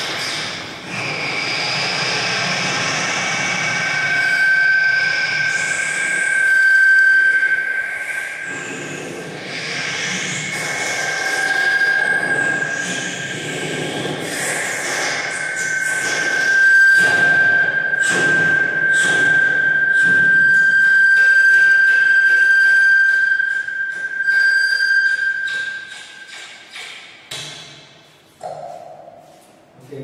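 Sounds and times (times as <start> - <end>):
high whistle-like vocal tone: 0.0 - 27.0.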